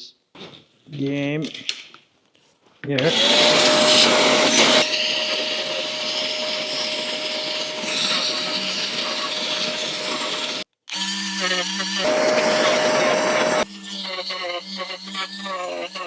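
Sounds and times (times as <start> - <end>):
vacuum cleaner running: 3.0 - 16.0
rotary tool sanding plastic: 3.1 - 16.0.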